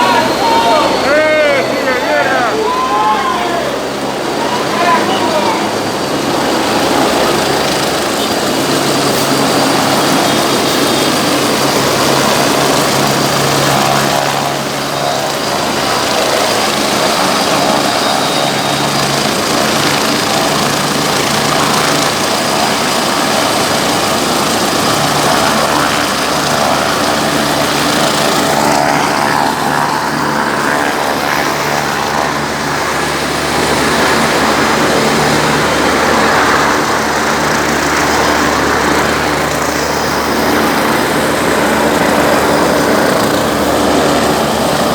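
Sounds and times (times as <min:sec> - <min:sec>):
helicopter rotor and engine: 0:00.0 - 0:44.9.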